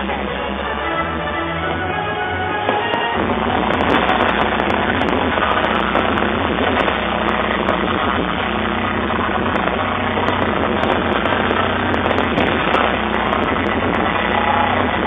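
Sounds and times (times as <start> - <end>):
fireworks barrage: 0.0 - 15.0
sharp fireworks pops: 2.6 - 15.0.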